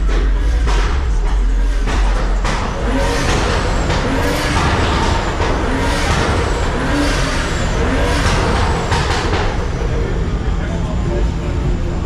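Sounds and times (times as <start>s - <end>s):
car engine: 0.0s - 12.0s
road rush: 0.0s - 12.0s.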